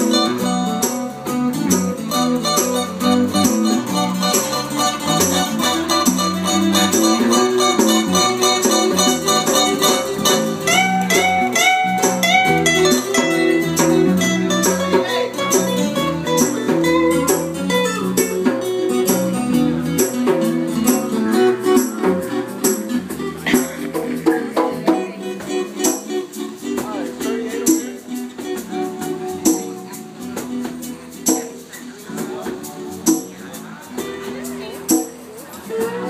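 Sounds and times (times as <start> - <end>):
acoustic guitars playing: 0.0 - 36.0.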